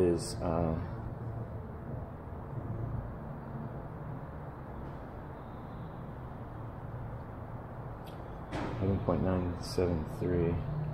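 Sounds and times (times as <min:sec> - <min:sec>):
room noise hum and hiss: 0:00.0 - 0:10.9.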